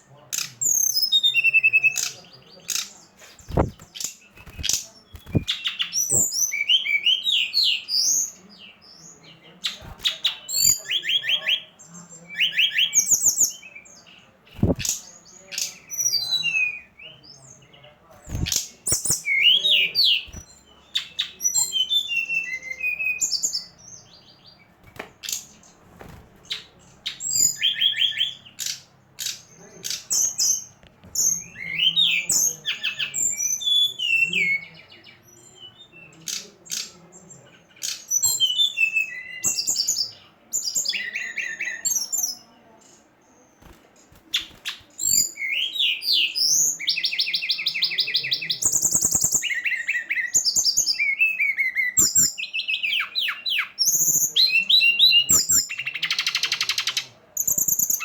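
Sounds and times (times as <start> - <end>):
songbird chirping and trilling: 0.0 - 58.0.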